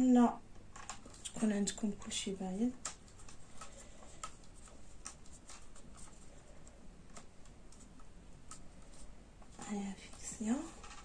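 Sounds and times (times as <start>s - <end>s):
faint plastic clicks and ticks: 0.5s - 11.0s.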